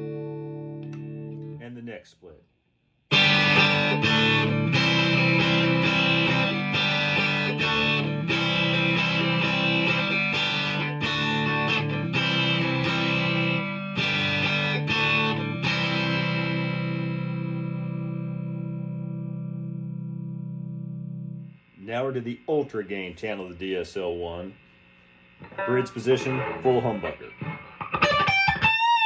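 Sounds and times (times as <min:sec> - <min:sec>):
electric guitar chords and notes: 0:00.0 - 0:01.6, 0:03.1 - 0:21.8, 0:25.4 - 0:29.0.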